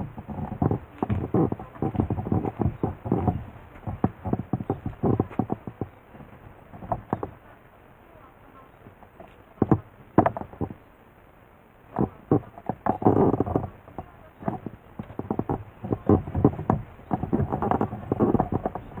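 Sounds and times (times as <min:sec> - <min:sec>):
irregular knocks and bumps: 0:00.0 - 0:07.5, 0:08.8 - 0:10.8, 0:11.9 - 0:19.0.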